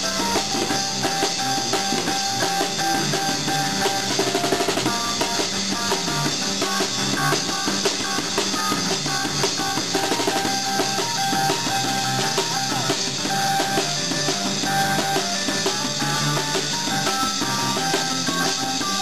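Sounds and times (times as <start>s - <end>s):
amplified keyboard: 0.0s - 19.0s
drum kit beat: 0.0s - 19.0s
electric bass guitar: 0.0s - 19.0s.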